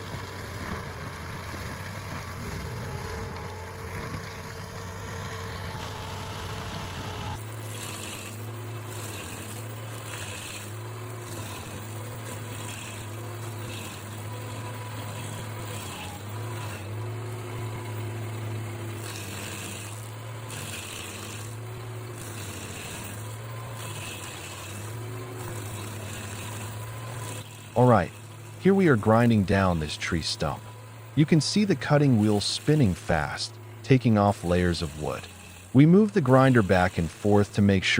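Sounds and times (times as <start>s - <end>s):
cutting wheel grinding wood: 0.0s - 37.9s
stump grinder engine running: 0.0s - 37.9s.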